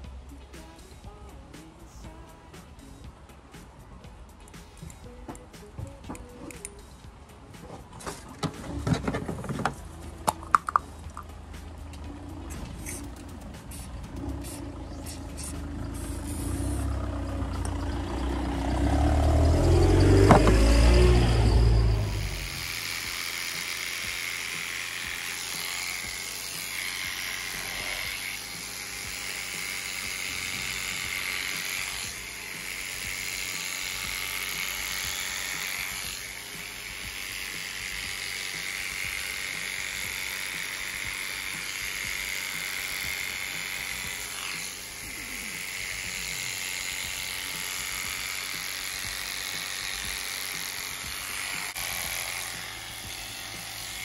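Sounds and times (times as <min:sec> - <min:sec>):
electric clippers buzzing: 0:08.4 - 0:54.0.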